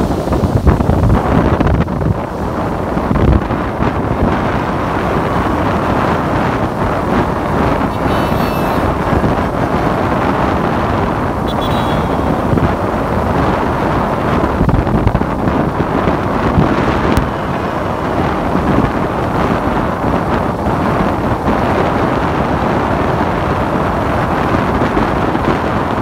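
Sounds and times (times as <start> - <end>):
traffic on wet road: 0.0 - 26.0
wind on microphone: 0.0 - 26.0.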